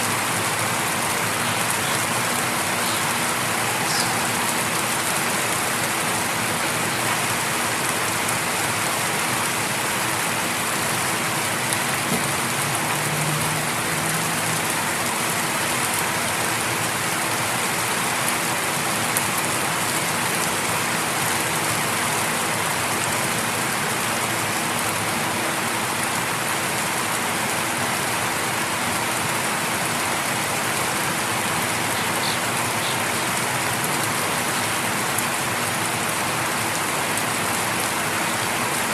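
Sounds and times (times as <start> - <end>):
light rain falling: 0.0 - 38.9.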